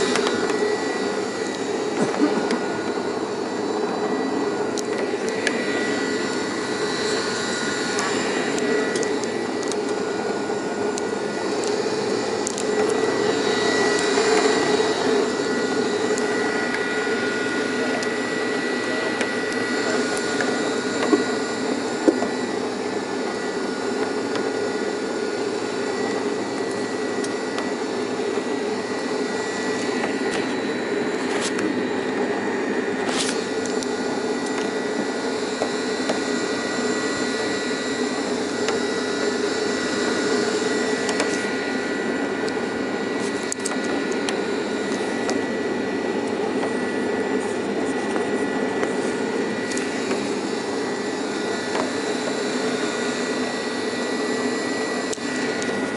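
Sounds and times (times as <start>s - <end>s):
lift machinery droning and whining: 0.0s - 55.9s.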